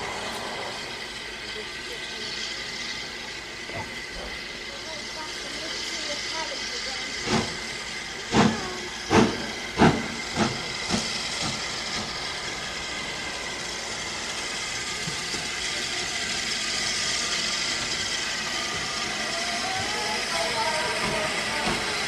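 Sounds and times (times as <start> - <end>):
steady hiss of steam: 0.0 - 22.0
steam locomotive exhaust beats: 0.0 - 22.0.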